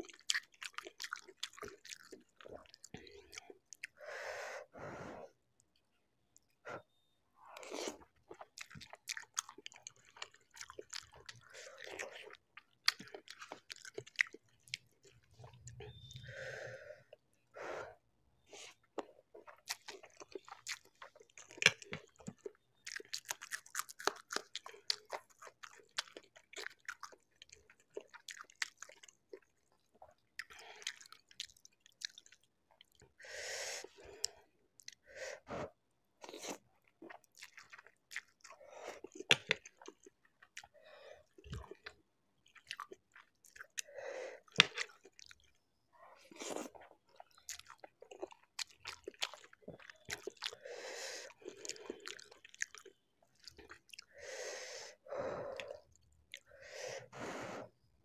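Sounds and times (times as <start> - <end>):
chewing noodles: 0.0 - 4.0, 7.5 - 16.3, 18.5 - 33.2, 33.8 - 35.1, 36.2 - 54.2, 55.0 - 56.6.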